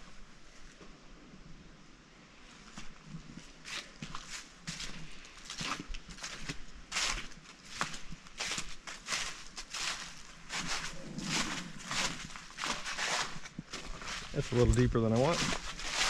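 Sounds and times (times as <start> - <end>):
footsteps on gravel and leaves: 2.6 - 16.0.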